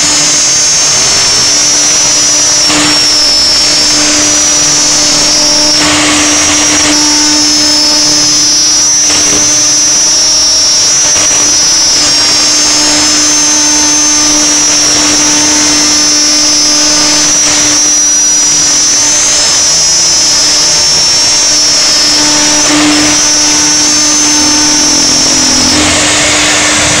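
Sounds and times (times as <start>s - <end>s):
cutter milling plastic: 0.0s - 27.0s
router spindle high-pitched whine: 0.0s - 27.0s.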